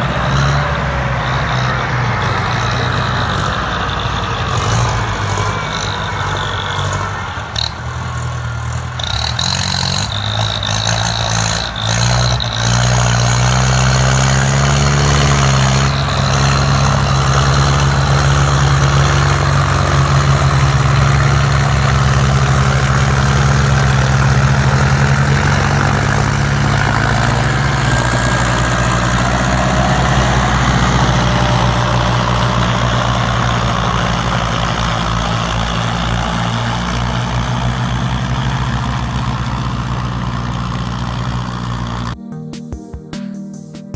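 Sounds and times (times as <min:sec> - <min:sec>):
tractor diesel engine revving: 0:00.0 - 0:42.2.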